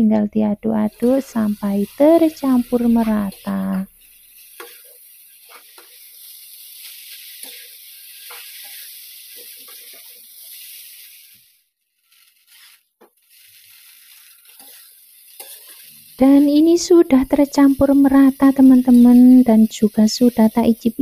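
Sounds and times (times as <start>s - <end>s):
noodles sizzling in a wok: 0.3s - 21.0s
spatula scraping wok: 0.8s - 21.0s.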